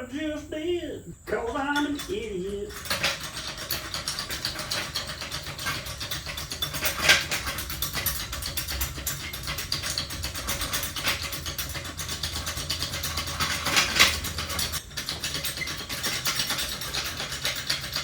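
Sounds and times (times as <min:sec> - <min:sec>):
floor jack clicking and rattling: 0:01.3 - 0:18.0.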